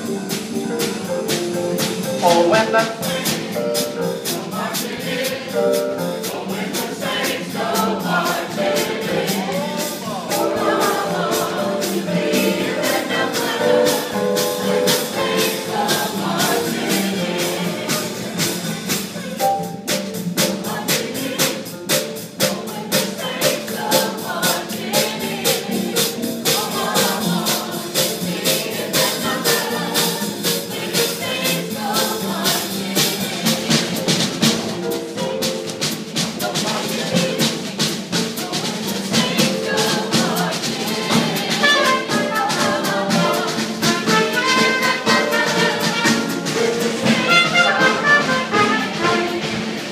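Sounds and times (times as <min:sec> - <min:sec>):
jazz rhythm section: 0:00.0 - 0:49.9
group singing: 0:02.0 - 0:34.7, 0:35.8 - 0:49.9.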